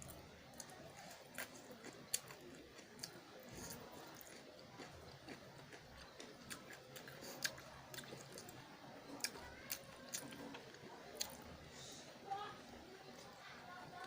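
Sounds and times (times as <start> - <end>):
close-mic chewing: 0.0 - 14.0.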